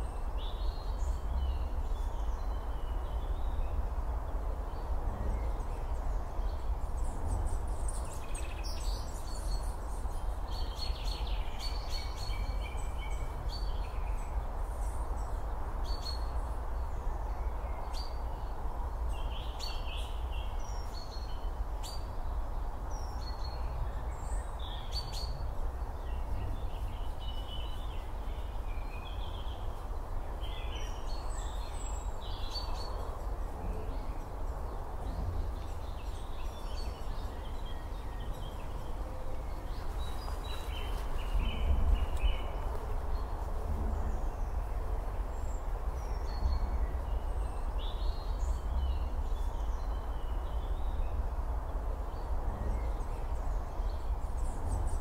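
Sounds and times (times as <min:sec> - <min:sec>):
low rumble and hiss: 0:00.0 - 0:55.0
bird calls and chirps: 0:04.7 - 0:51.2.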